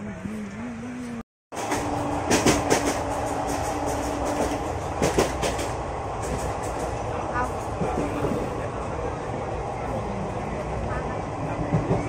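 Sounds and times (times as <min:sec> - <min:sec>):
train carriage rumble and hum: 0:00.0 - 0:12.0.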